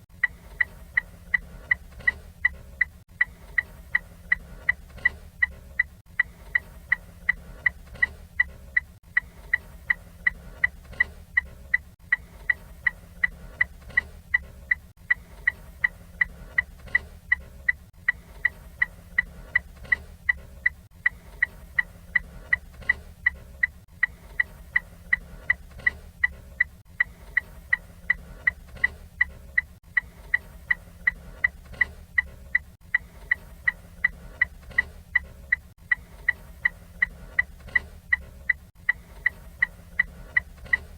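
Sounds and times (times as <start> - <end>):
turn signal ticking: 0.0 - 40.9.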